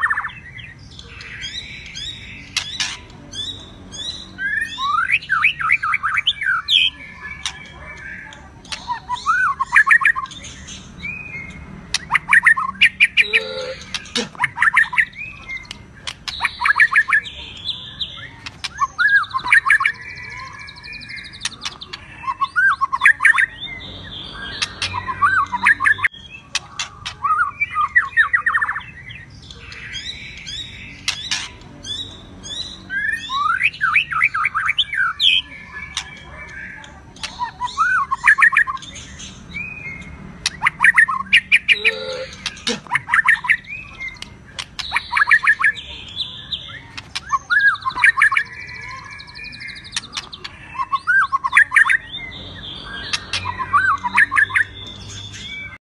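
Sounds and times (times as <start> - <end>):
harsh bird chattering calls: 0.0 - 55.8
songbirds singing whistles and trills: 0.0 - 55.8.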